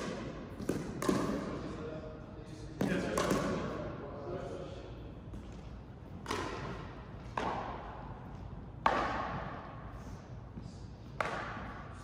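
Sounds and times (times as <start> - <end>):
ball struck in echoing hall: 0.0 - 12.0.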